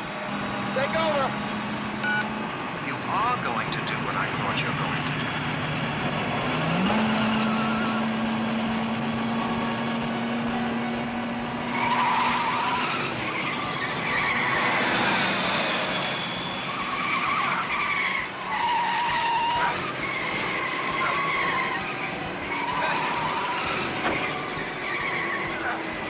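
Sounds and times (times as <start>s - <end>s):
car engine and road noise: 0.0s - 26.0s
tyres squealing: 0.6s - 9.7s, 10.3s - 26.0s.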